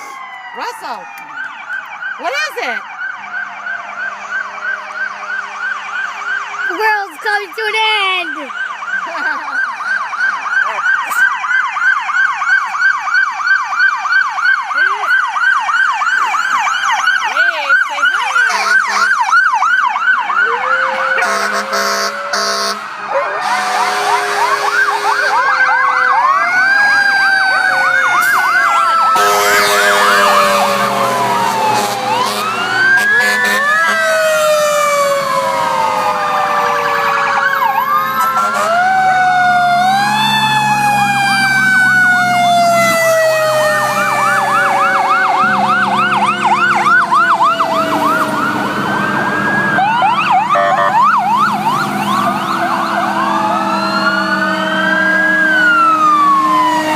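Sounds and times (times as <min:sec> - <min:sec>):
fire truck sirens: 0:00.0 - 0:56.9.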